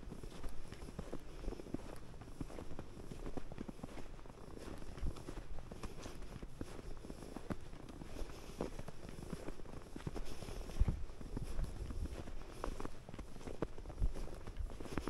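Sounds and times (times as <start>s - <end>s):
footsteps in snow: 0.0s - 15.0s.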